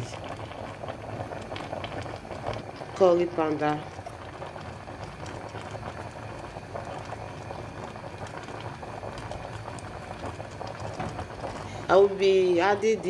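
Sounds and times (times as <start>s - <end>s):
pot of meat bubbling: 0.0s - 13.0s.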